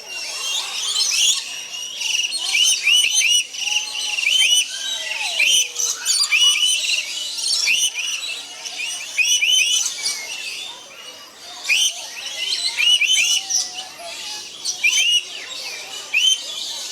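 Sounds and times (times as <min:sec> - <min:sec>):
flock of parrots chirping: 0:00.1 - 0:16.9.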